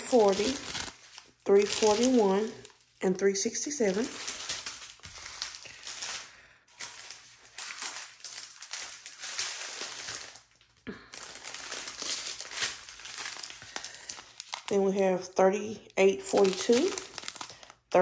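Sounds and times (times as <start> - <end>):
plastic bags crinkling: 0.0 - 15.0, 16.2 - 18.0.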